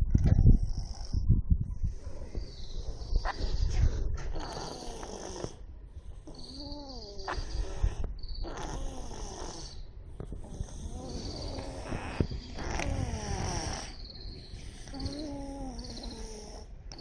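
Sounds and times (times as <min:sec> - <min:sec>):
cat snoring with wheezing breaths: 0:00.3 - 0:01.3, 0:02.5 - 0:17.0.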